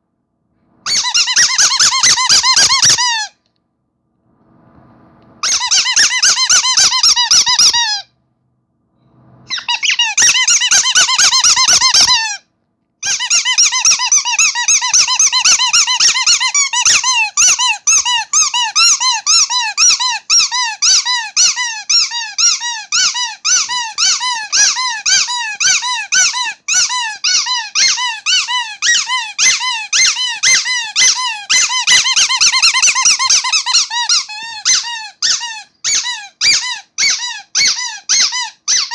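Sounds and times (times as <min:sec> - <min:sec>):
squeaky toy squeaking: 0:00.8 - 0:03.4, 0:05.4 - 0:08.1, 0:09.5 - 0:38.9.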